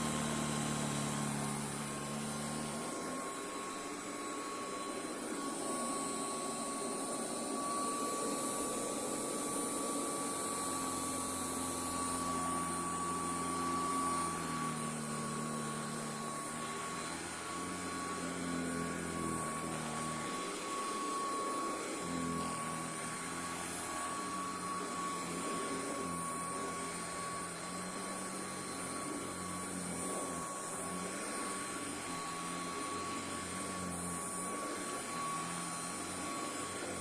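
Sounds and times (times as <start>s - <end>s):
vacuum cleaner running on carpet: 0.0s - 37.0s.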